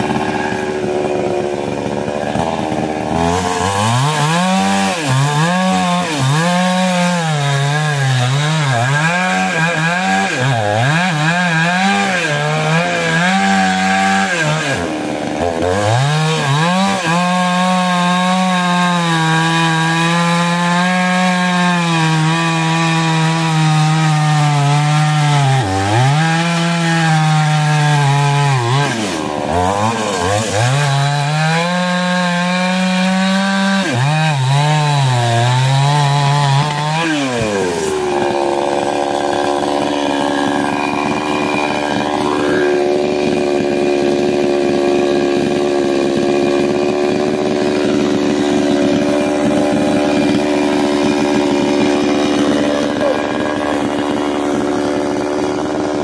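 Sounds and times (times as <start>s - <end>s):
chainsaw cutting through log: 0.0s - 56.0s
chainsaw idling: 0.0s - 56.0s.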